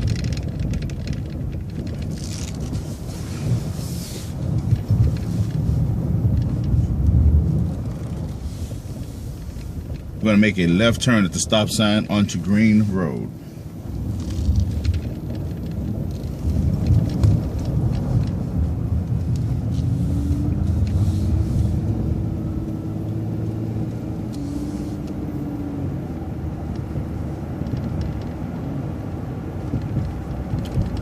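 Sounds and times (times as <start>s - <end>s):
bus engine rumbling with whine: 0.0s - 31.0s.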